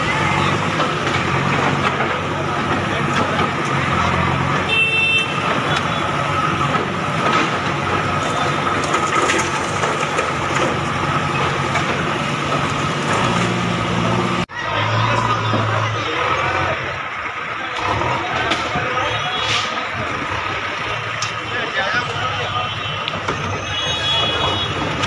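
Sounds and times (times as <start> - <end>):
clatter of work noise: 0.0 - 22.4
diesel engine under load: 0.0 - 25.0.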